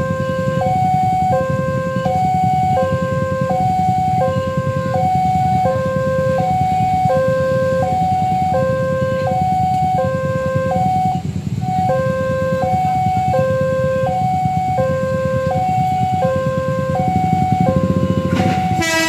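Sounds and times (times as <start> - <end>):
steady low rumble: 0.0 - 19.0
two-tone crossing warning alarm: 0.0 - 19.0.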